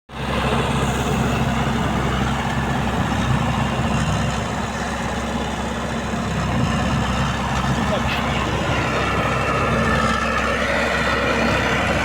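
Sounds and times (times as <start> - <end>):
tractor diesel engine running: 0.1 - 12.0.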